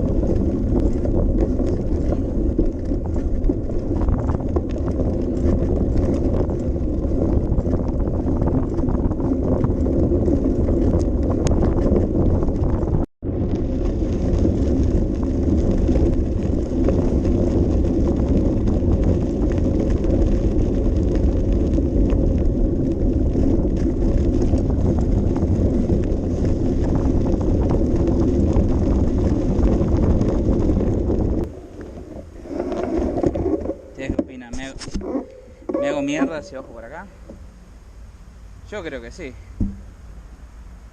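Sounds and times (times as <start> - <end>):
bicycle tyres and frame rattling: 0.0 - 40.9
wind buffeting microphone: 0.0 - 40.9.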